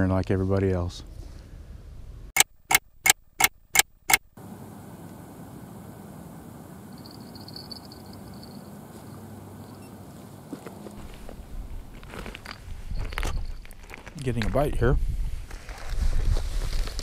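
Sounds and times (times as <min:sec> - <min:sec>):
low outdoor background hush: 0:00.0 - 0:15.7.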